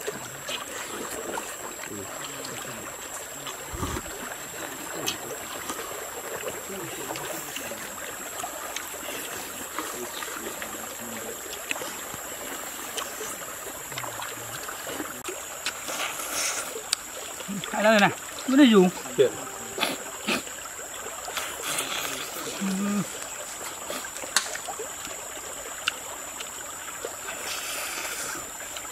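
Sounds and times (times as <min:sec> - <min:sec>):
stream trickling: 0:00.0 - 0:28.9.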